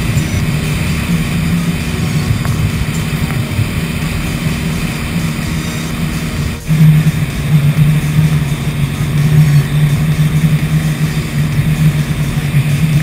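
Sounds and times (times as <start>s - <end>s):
powerboat engines running: 0.0s - 13.0s.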